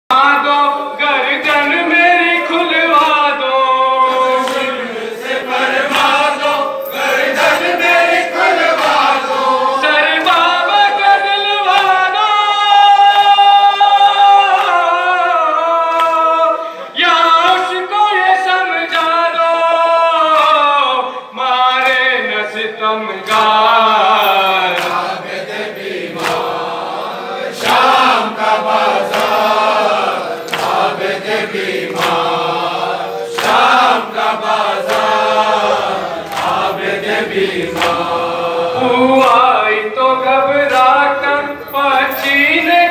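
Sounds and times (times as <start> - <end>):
men singing a mourning lament: 0.1 - 42.9.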